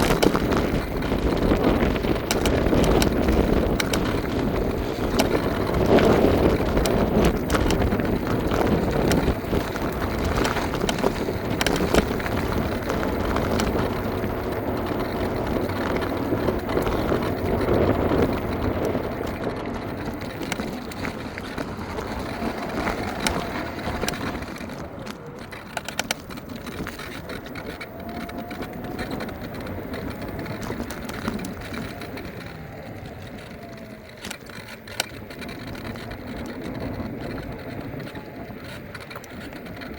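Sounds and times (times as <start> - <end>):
tyre rumble over pavement: 0.0 - 39.9
wind on microphone: 0.0 - 39.9.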